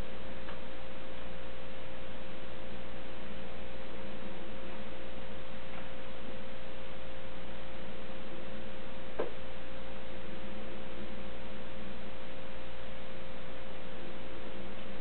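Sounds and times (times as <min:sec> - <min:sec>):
constant mid-pitched tone: 0:00.0 - 0:15.0
electrical hum and hiss: 0:00.0 - 0:15.0.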